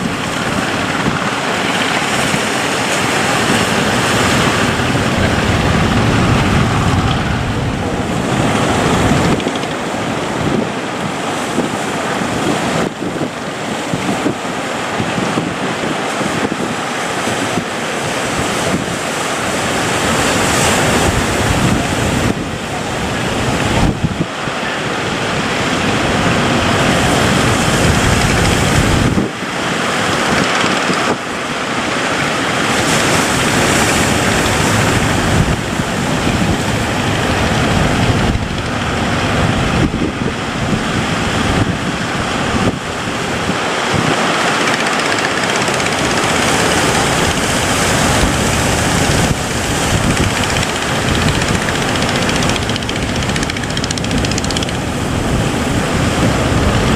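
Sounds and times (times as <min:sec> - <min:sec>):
wind and sea rushing: 0:00.0 - 0:56.9
wind buffeting microphone: 0:00.0 - 0:56.9.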